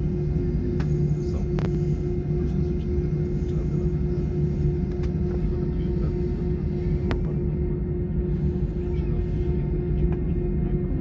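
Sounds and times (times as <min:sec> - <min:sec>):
jet engine rumble in cabin: 0:00.0 - 0:11.0
low hum: 0:00.0 - 0:11.0.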